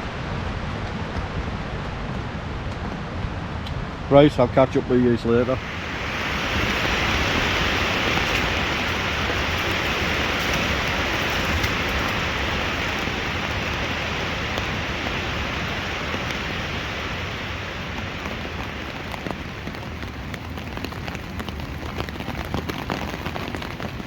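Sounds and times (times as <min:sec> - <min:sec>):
rain on a tarp: 0:00.0 - 0:24.0.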